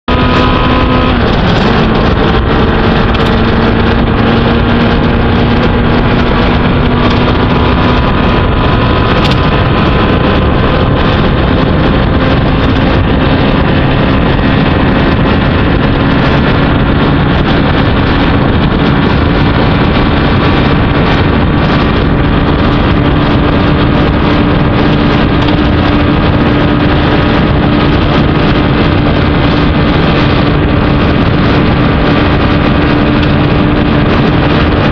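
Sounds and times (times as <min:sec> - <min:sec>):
motorcycle engine at road speed: 0:00.0 - 0:34.9
wind noise on microphone: 0:00.0 - 0:34.9.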